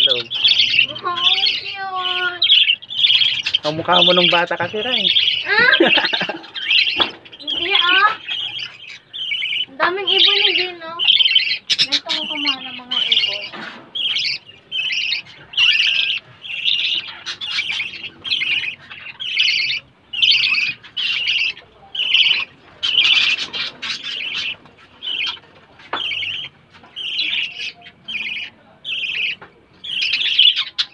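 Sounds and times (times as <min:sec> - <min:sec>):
budgerigars chirping: 0:00.0 - 0:30.9.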